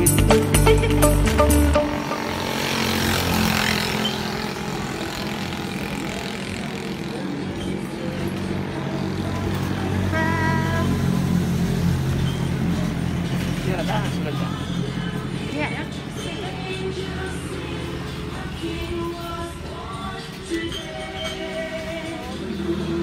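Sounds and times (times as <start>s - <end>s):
vehicle engines passing: 0.0s - 23.0s.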